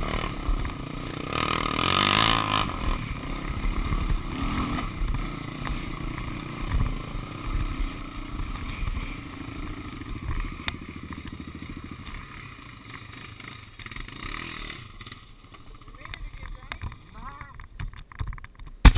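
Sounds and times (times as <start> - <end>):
quad bike engines running: 0.0 - 18.9.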